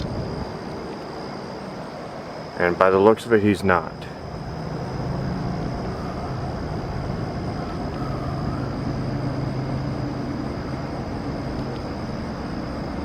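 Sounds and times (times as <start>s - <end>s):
high-pitched whine: 0.0s - 13.0s
low mechanical hum: 0.0s - 13.0s.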